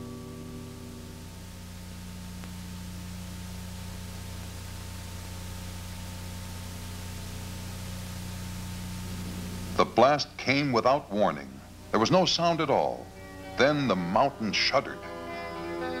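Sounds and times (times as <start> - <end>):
low hum: 0.0 - 16.0
steady hiss: 0.0 - 16.0.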